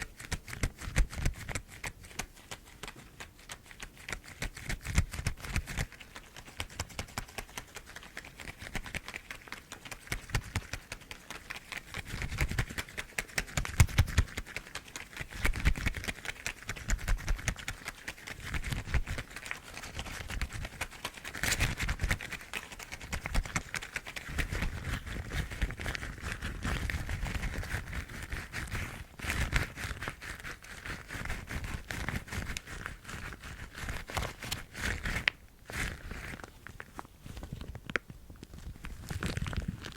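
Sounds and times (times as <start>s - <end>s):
rubber gloves tapping and squeaking: 0.0s - 39.9s.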